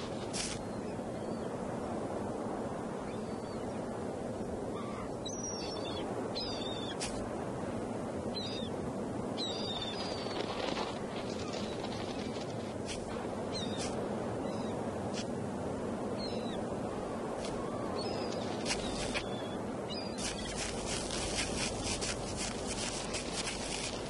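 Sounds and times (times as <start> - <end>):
steady background hiss: 0.0 - 24.0.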